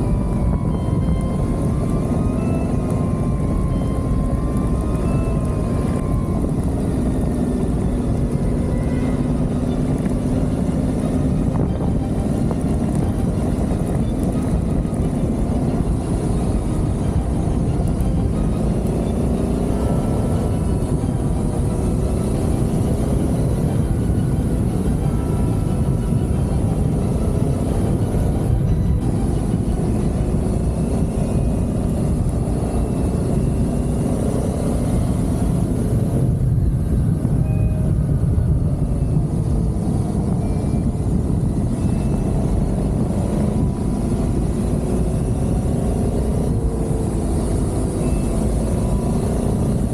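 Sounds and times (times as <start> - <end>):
motorcycle engine: 0.0 - 49.9
wind and road noise: 0.0 - 49.9.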